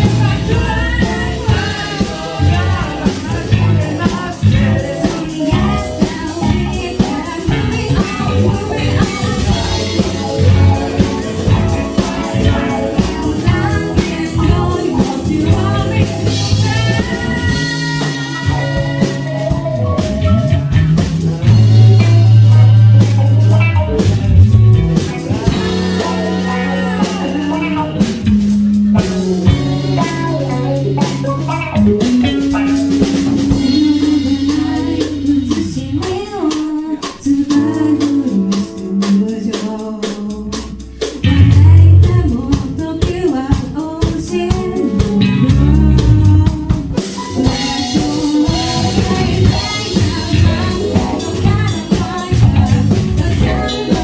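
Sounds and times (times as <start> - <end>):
woman singing: 0.0 - 20.1, 25.3 - 28.4, 29.0 - 54.0
rock band playing: 0.0 - 54.0.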